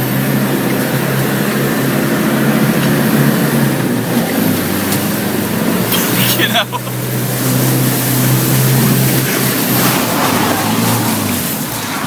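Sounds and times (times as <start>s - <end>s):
engine running under load: 0.0s - 12.0s
water rushing and splashing: 0.0s - 12.0s.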